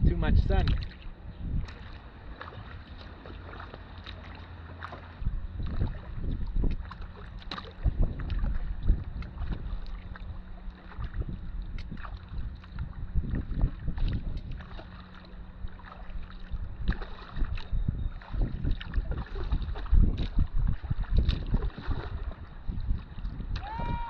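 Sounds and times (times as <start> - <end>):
low rumble: 0.0 - 24.0
paddles splashing in water: 0.6 - 24.0.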